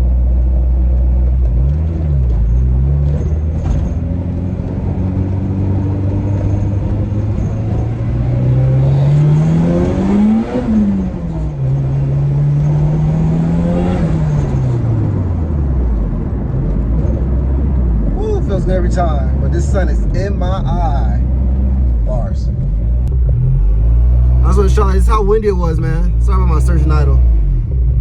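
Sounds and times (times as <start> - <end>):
car engine accelerating: 1.2 - 28.0.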